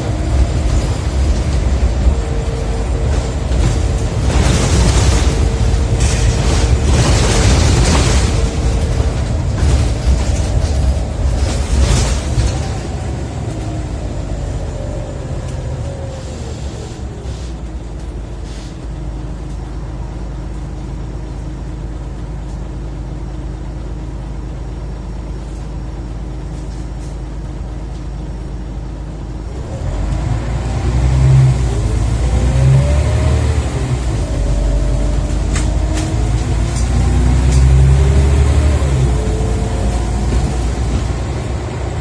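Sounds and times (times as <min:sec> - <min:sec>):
bus engine accelerating: 0:00.0 - 0:42.0.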